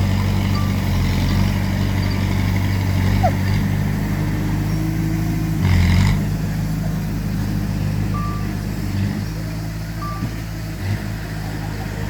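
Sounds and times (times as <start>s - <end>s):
heavy machinery diesel engine: 0.0s - 12.0s.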